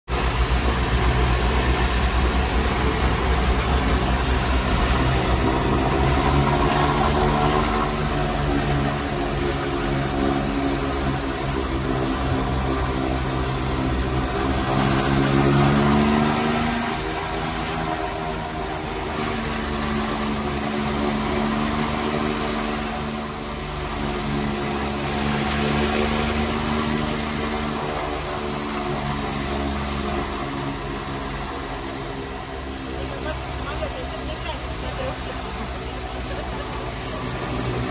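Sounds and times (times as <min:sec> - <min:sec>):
high turbine whine: 0:00.1 - 0:37.9
turboprop engines running: 0:00.1 - 0:37.9.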